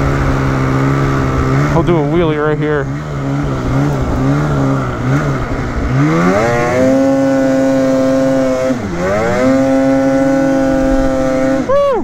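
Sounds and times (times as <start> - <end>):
snowmobile engine revving hard: 0.0 - 12.0.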